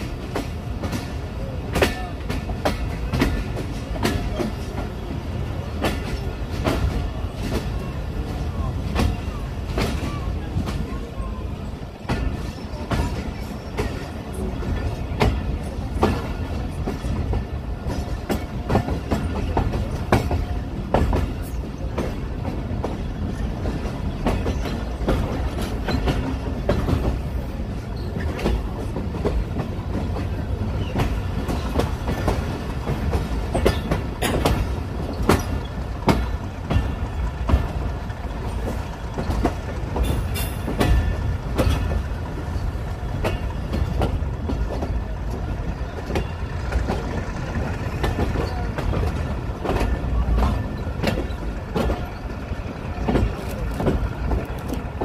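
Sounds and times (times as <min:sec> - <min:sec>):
train carriages rumbling: 0:00.0 - 0:55.0
wheels clacking over rail joints: 0:00.0 - 0:55.0.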